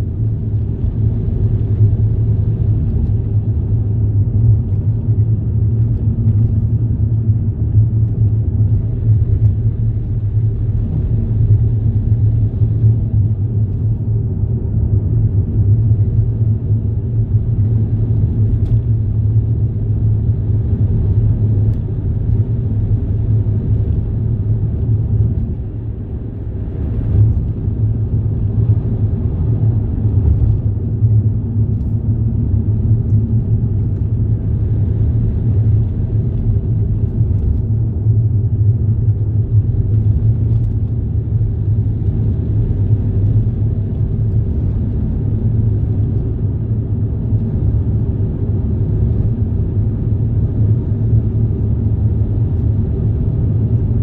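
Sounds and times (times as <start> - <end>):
low rumble of moving vehicle: 0.0 - 54.0.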